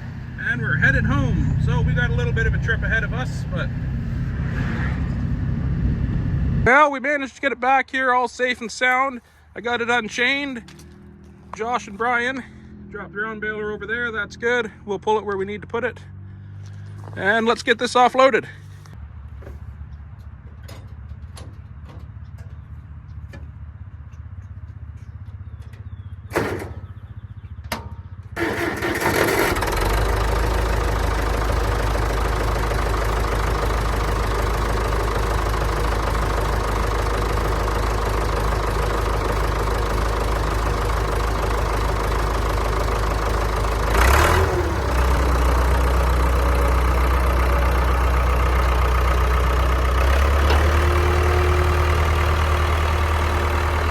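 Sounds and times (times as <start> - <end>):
engine clatter: 0.0 - 6.8, 8.2 - 53.9
tractor engine starting and running: 0.0 - 53.9.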